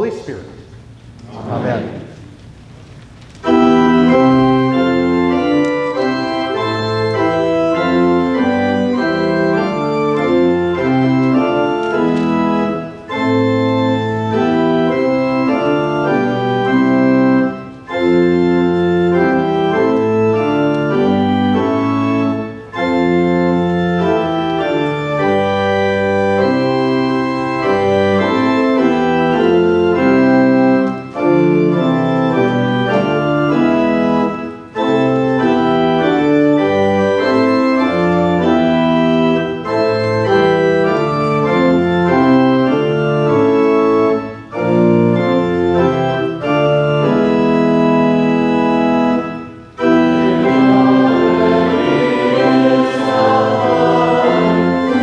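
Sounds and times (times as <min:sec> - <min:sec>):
church organ playing a hymn: 0:00.0 - 0:55.0.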